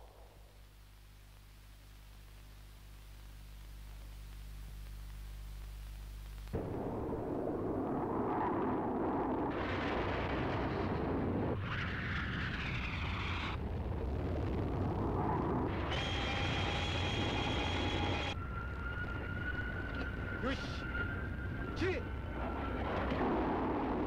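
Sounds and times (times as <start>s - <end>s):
electronic ray-beam whine: 0.0s - 24.0s.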